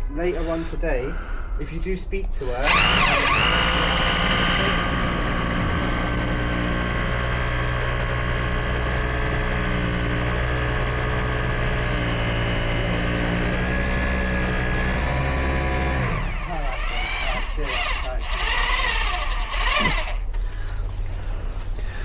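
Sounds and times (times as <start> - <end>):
electric drill running: 2.6 - 20.4.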